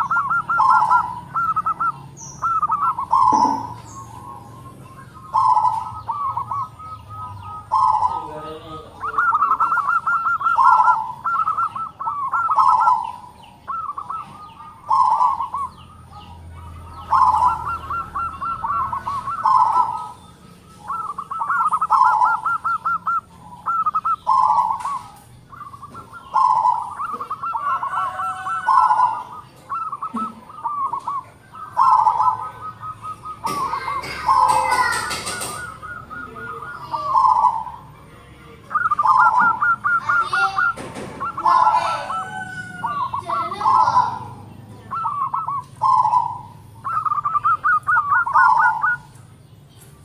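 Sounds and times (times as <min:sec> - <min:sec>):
dove cooing: 0:00.0 - 0:50.0.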